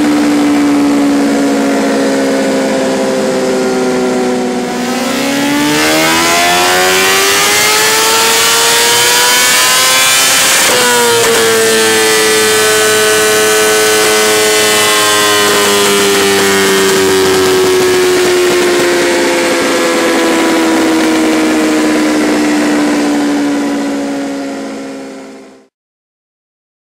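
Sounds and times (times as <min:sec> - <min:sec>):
motorcycle engine at high revs: 0:00.0 - 0:25.7.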